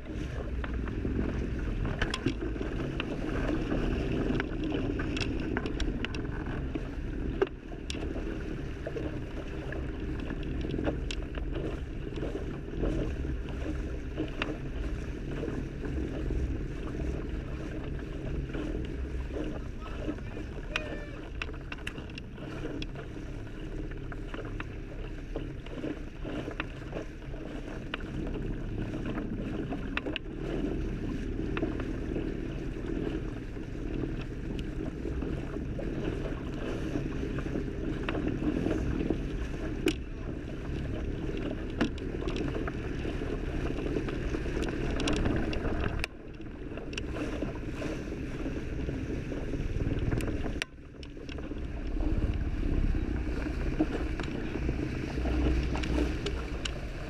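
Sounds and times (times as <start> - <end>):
water rushing along a boat hull: 0.0 - 57.0.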